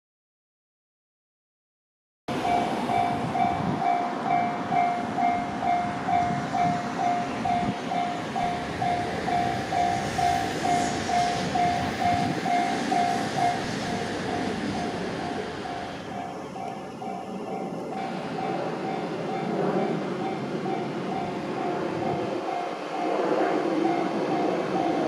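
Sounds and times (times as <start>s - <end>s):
level-crossing warning bell: 2.3s - 25.0s
train passing: 2.3s - 25.0s.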